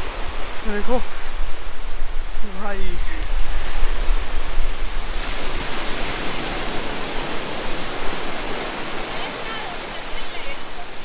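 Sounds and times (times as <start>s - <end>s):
ocean surf breaking on shore: 0.0s - 11.0s
wind rumbling on microphone: 0.0s - 11.0s.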